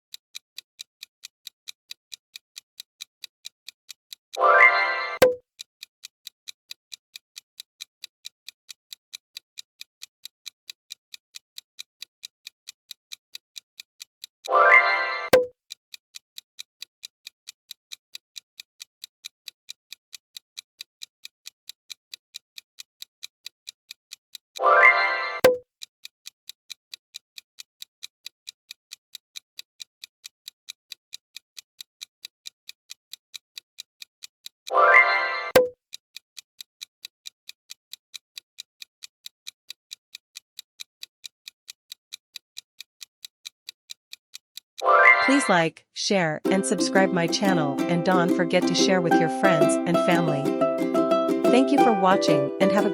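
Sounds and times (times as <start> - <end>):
clock ticking: 0.0 - 15.8, 16.4 - 35.8, 36.4 - 52.9.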